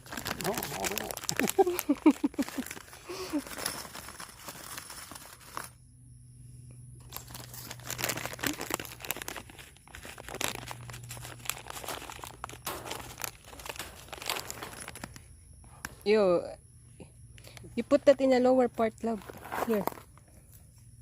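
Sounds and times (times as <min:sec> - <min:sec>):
rustling and crinkling: 0:00.0 - 0:05.8, 0:07.0 - 0:16.1, 0:18.8 - 0:20.9.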